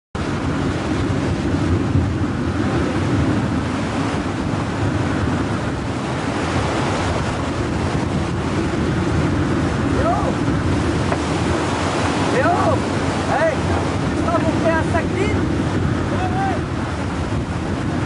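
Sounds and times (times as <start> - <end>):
rough sea waves breaking: 0.2 - 18.0
wind buffeting microphone: 0.2 - 18.0.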